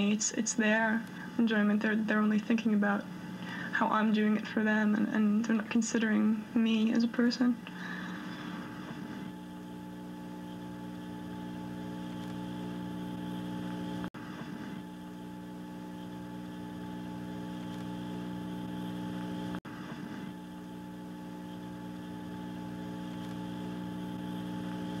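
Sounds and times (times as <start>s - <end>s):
droning hum of held tones: 0.0s - 25.0s.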